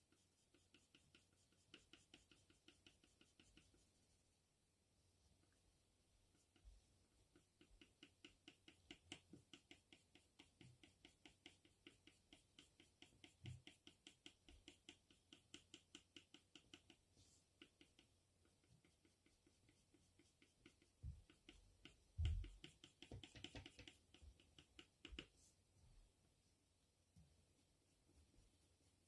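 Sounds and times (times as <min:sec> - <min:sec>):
pencil scratching on paper: 0:00.0 - 0:04.2, 0:06.3 - 0:25.5.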